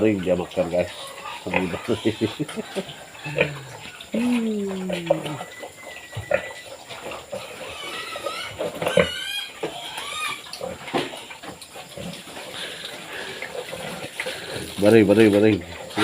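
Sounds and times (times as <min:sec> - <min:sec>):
pigs grunting and squealing: 0:00.0 - 0:16.0.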